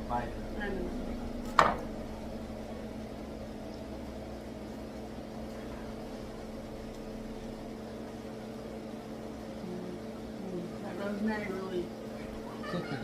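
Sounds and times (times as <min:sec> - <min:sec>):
steady hum with low tone: 0:00.0 - 0:13.0.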